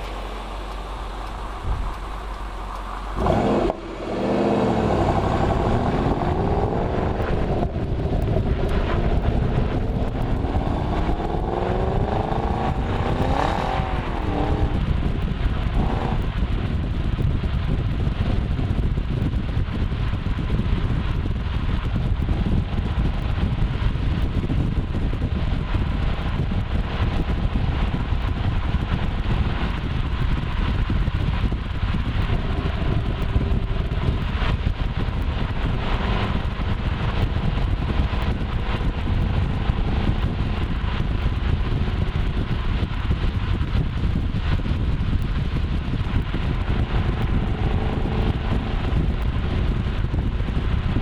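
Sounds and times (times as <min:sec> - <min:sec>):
car engine rumble: 0:00.0 - 0:51.0
road and wind noise: 0:00.0 - 0:51.0.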